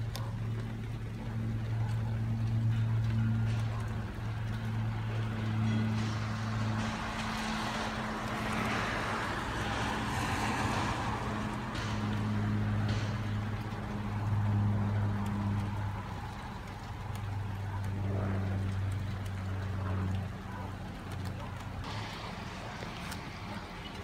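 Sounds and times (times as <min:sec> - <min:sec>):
broad rushing noise: 0:00.0 - 0:24.0
low engine drone: 0:00.0 - 0:24.0.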